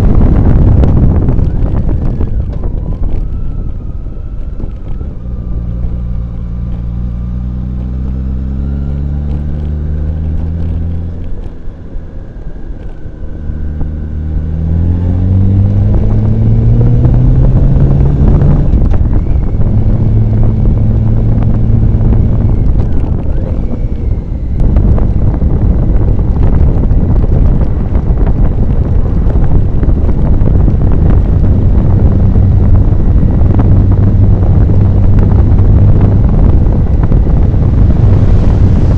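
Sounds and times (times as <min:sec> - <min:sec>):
motorcycle engine accelerating: 0:00.0 - 0:38.9
wind rushing over microphone: 0:00.0 - 0:38.9.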